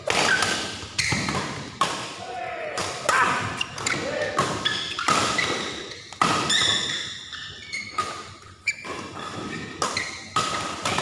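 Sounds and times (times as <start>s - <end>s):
rackets hitting shuttlecock: 0.0s - 7.1s, 7.9s - 11.0s
shoes squeaking on court: 0.1s - 1.8s, 3.4s - 11.0s.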